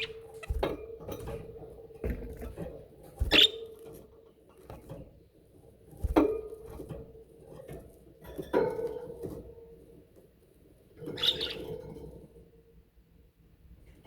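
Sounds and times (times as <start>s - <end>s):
patter of small bird movements: 0.0s - 12.5s.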